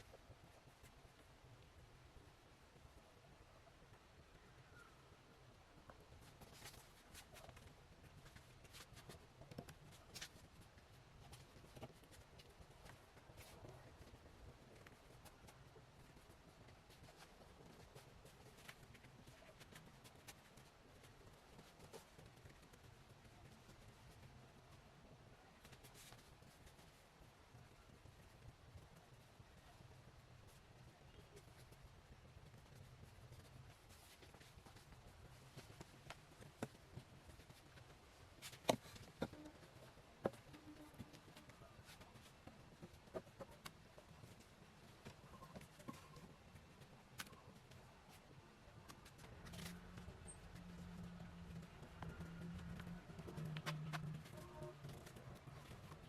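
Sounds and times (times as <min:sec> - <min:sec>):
faint background noise: 0:00.0 - 0:56.0
faint clicks and taps: 0:00.0 - 0:56.0.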